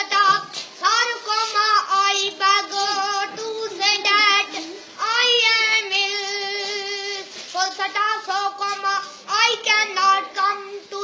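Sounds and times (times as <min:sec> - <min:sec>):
child singing: 0:00.0 - 0:11.0.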